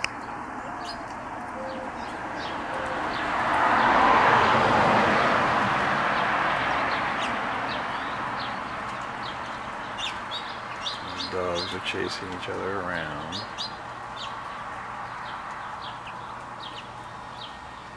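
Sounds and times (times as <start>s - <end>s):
small birds chirping: 0.0s - 5.5s, 6.1s - 17.9s.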